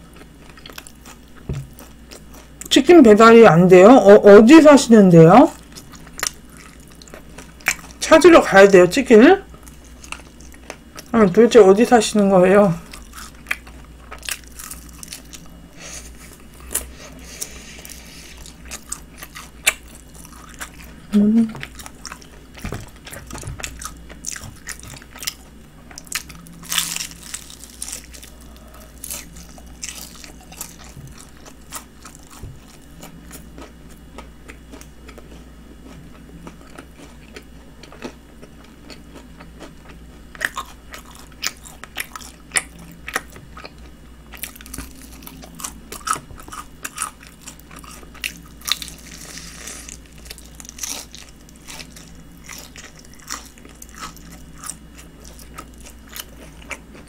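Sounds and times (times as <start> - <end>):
crunching fried chicken: 0.0 - 2.8, 5.5 - 8.4, 9.4 - 11.9, 12.8 - 57.0.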